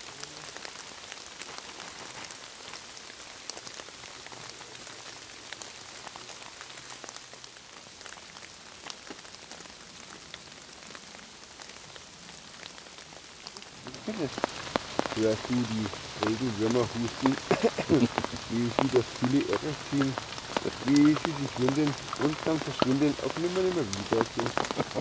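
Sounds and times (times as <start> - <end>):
rain falling in forest: 0.0 - 25.0.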